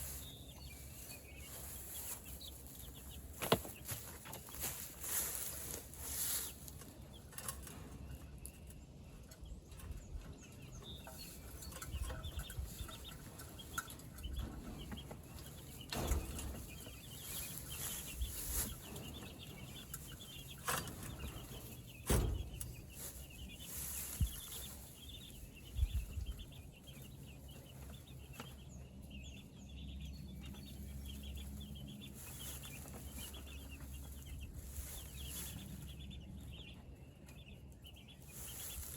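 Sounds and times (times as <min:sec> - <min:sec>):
chickens peeping and clucking: 0:00.0 - 0:38.9.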